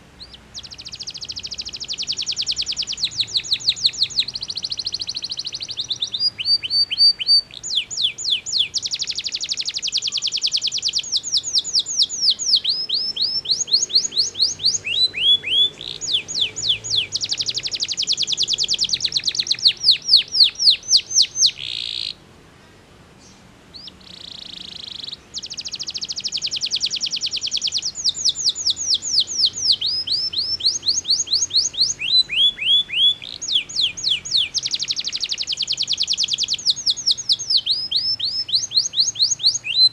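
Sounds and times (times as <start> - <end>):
canary singing trills: 0.0 - 22.2, 23.2 - 39.9.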